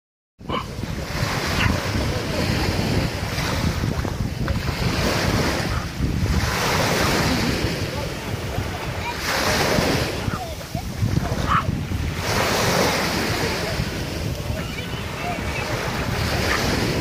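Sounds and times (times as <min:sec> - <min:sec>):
small waves washing onto sand: 0:00.4 - 0:17.0
wind rumbling on microphone: 0:00.4 - 0:17.0.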